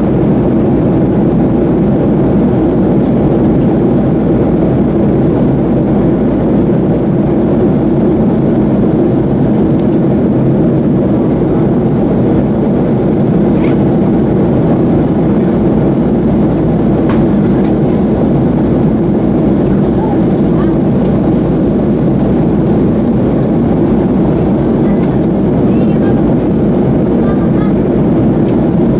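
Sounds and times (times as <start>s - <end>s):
airflow over fuselage: 0.0s - 28.9s
jet engine drone in cabin: 0.0s - 28.9s.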